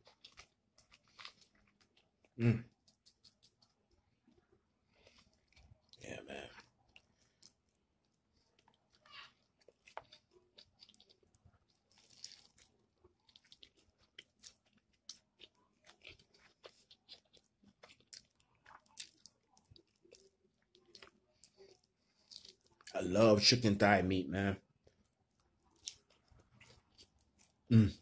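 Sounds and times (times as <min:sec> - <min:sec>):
man chewing crispy chicken: 0:00.0 - 0:23.0, 0:24.7 - 0:28.0.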